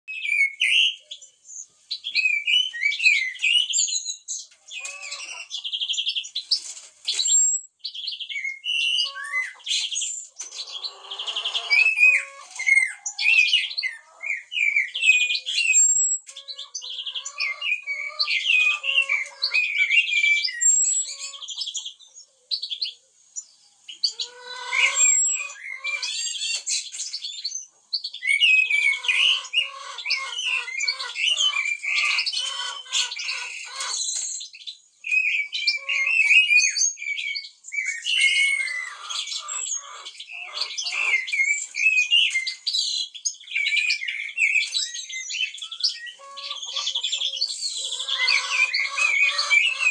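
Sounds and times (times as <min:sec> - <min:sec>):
songbirds singing: 0:00.0 - 0:49.9.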